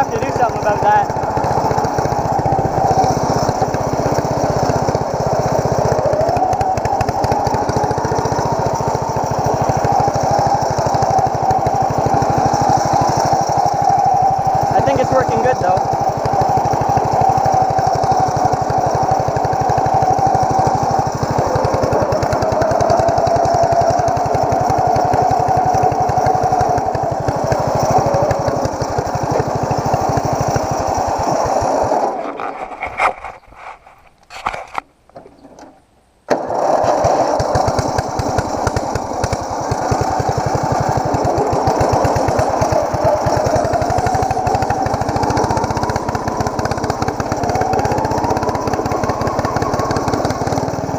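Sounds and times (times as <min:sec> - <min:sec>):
lawn tractor engine running: 0:00.0 - 0:50.9.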